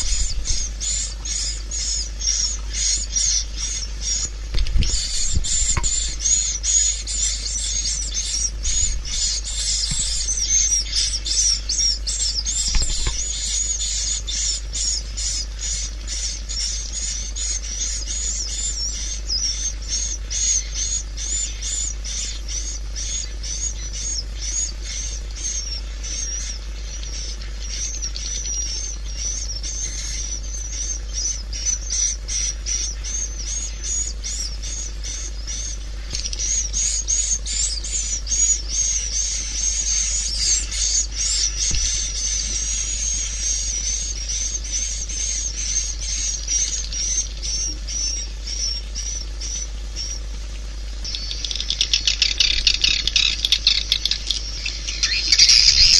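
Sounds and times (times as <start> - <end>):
swiftlets twittering: 0.0 - 15.6, 23.5 - 55.9
steady low hum: 0.0 - 55.9.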